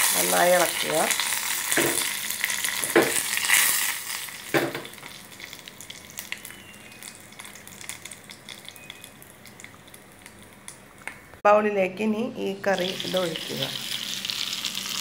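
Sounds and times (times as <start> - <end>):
hot oil sizzling and crackling: 0.0 - 11.2, 12.8 - 15.0.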